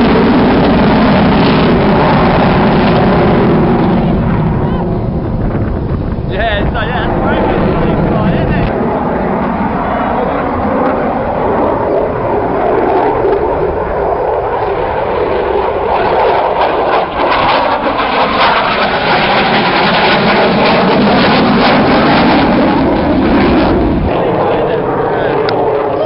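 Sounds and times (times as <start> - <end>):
aircraft engine rushing: 0.0 - 26.0.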